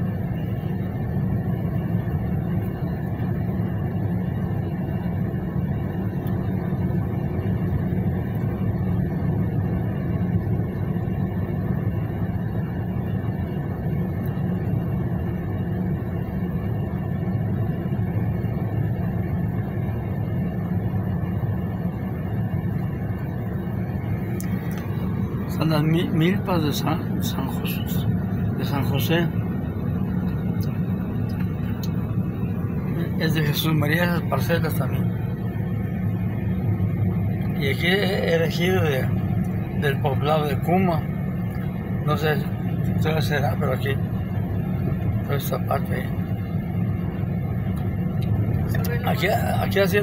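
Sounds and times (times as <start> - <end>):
car interior road and engine noise: 0.0 - 50.0.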